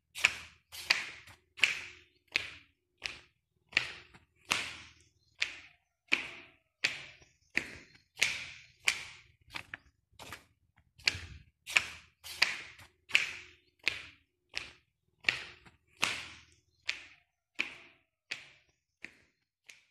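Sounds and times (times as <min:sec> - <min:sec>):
footsteps tapping: 0:00.2 - 0:19.9.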